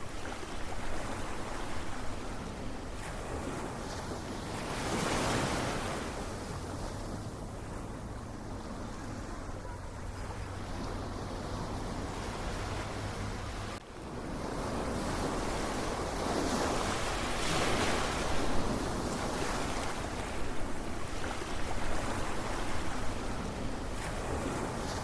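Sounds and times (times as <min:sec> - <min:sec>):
ocean waves washing ashore: 0:00.0 - 0:25.0.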